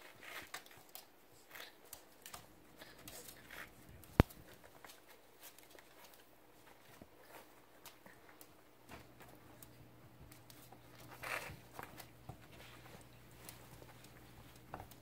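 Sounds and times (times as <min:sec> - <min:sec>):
puppies chewing and tugging shoe: 0:00.0 - 0:15.0.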